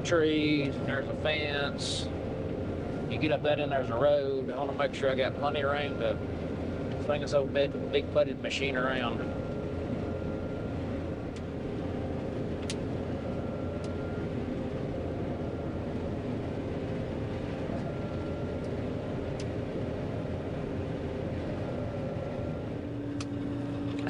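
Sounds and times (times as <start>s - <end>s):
combine harvester machinery drone: 0.0s - 24.0s.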